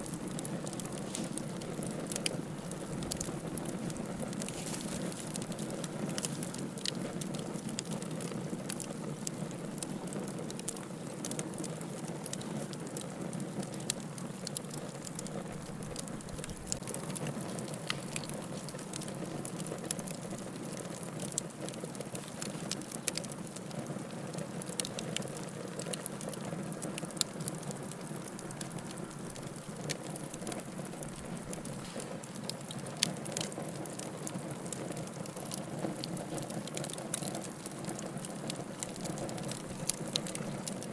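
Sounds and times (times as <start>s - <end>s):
burning logs crackling and popping: 0.0s - 40.9s
wood fire rushing flames: 0.0s - 40.9s.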